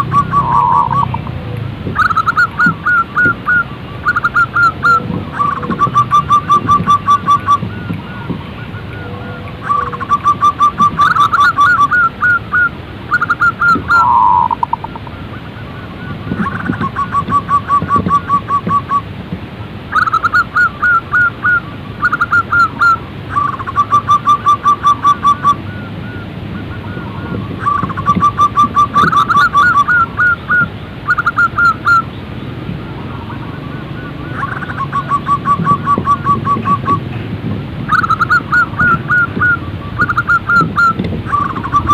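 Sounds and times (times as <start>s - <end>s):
dove cooing: 0.0s - 19.0s, 19.9s - 32.0s, 32.8s - 37.1s, 37.9s - 41.9s.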